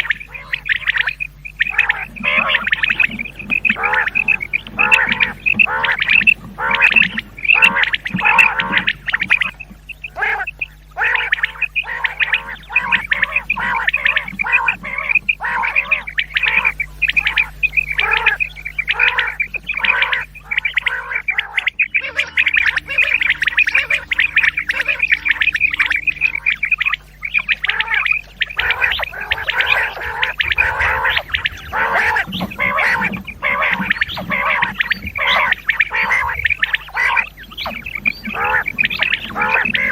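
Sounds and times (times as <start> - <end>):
quail calls: 0.0 - 39.9.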